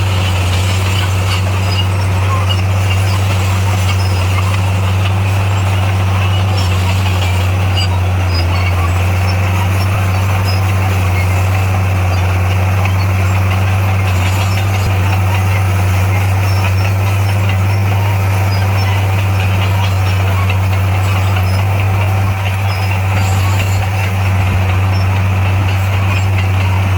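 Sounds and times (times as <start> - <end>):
diesel engine humming: 0.0 - 26.9.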